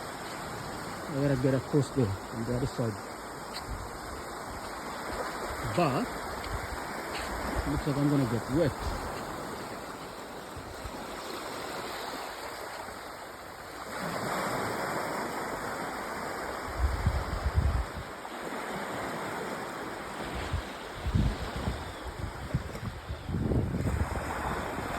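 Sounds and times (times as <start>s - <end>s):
creek water flowing: 0.0s - 24.9s.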